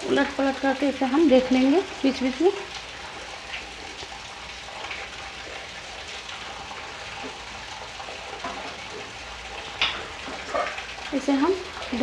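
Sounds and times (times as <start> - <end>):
dough balls sizzling in a pan: 0.0 - 12.0.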